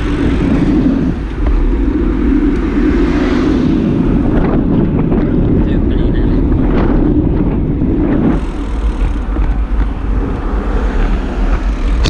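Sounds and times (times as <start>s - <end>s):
road noise: 0.0s - 12.0s
wind rumbling on microphone: 0.0s - 12.0s.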